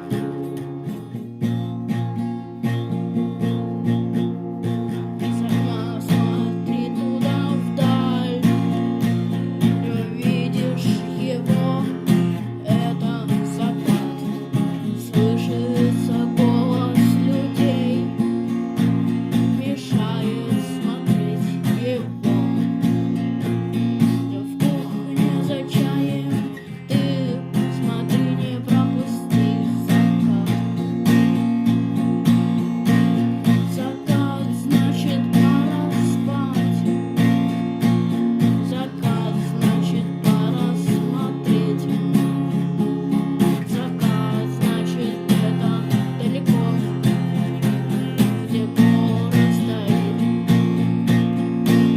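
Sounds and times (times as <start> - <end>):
strummed acoustic guitar: 0.0 - 51.9.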